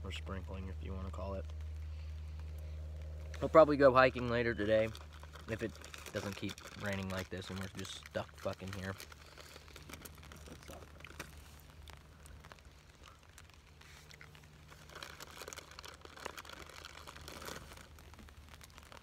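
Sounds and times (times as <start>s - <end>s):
raindrops ticking on a tarp: 0.0s - 19.0s
rustling: 0.1s - 19.0s.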